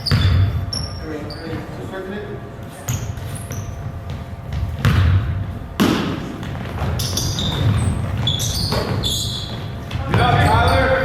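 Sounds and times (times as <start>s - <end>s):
basketball bouncing on gym court: 0.0s - 1.7s, 2.8s - 11.0s.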